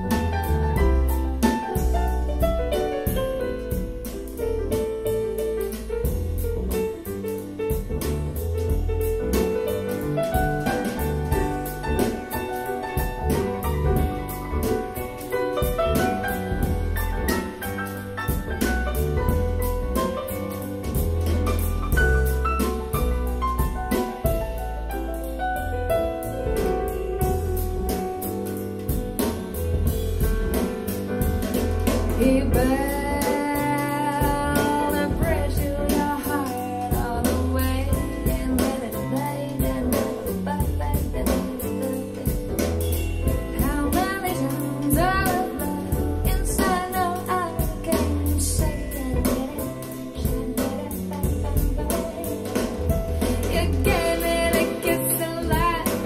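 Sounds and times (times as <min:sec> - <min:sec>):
bass: 0:00.0 - 0:56.0
drums: 0:00.0 - 0:56.0
person singing jazz: 0:00.0 - 0:56.0.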